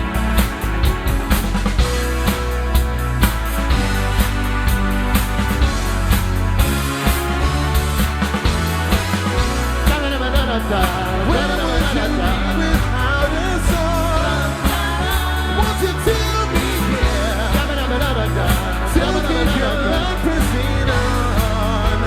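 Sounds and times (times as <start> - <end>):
drums steady beat: 0.0 - 22.0
live soul band: 0.0 - 22.0.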